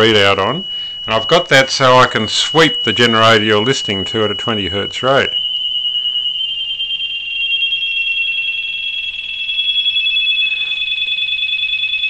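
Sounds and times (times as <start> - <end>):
warbling test tone: 0.0 - 12.0.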